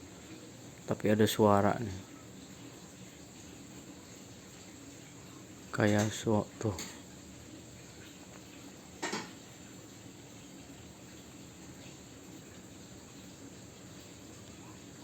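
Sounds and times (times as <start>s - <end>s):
faint electrical whine: 0.0s - 15.0s.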